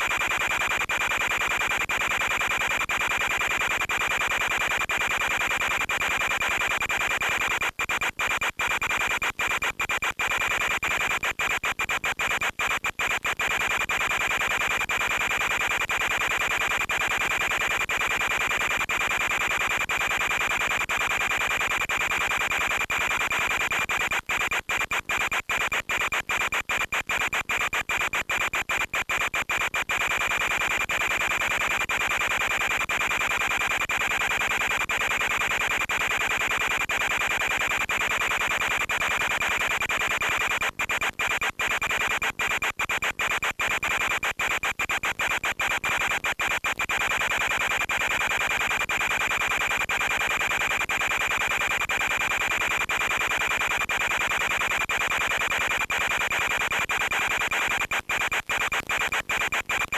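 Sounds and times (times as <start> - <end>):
radio static: 6.2 - 59.9.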